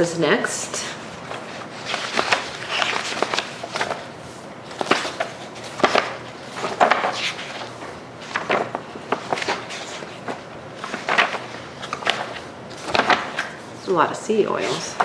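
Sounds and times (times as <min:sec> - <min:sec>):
rustling: 0:01.2 - 0:15.0.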